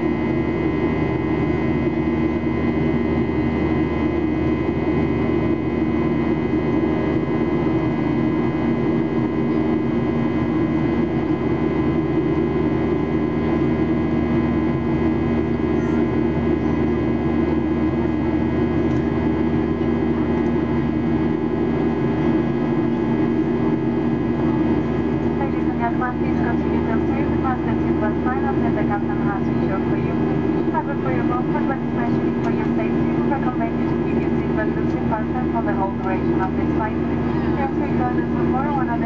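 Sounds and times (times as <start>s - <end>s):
airplane cabin drone: 0.0s - 39.0s.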